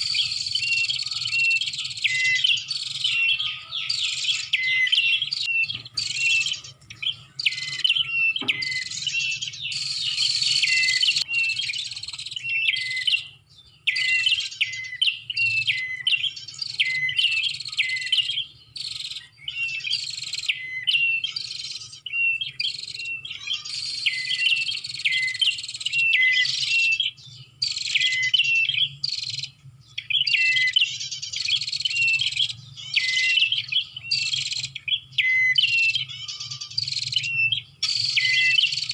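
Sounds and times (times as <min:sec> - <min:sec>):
high sharp bird chirping: 0:00.0 - 0:38.9.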